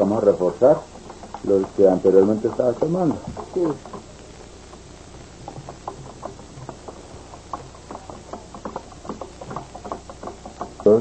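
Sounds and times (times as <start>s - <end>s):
low steady hum: 0.0s - 11.0s
soft clicking and tapping: 0.0s - 11.0s.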